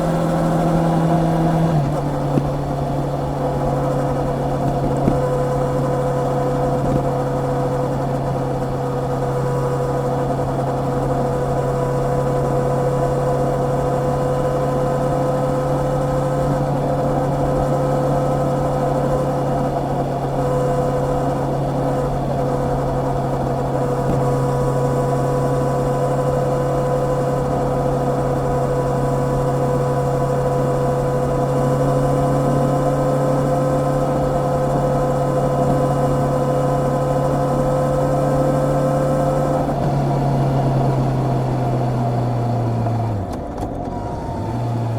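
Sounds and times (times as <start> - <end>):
motorcycle engine running steadily: 0.0 - 44.9.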